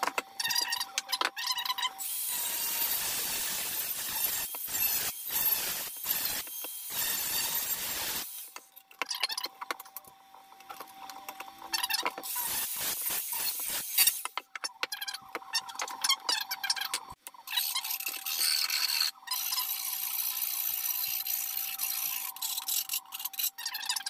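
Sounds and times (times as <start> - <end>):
angle grinder cutting pipe: 0.1 - 8.7, 11.6 - 14.8, 15.6 - 24.0.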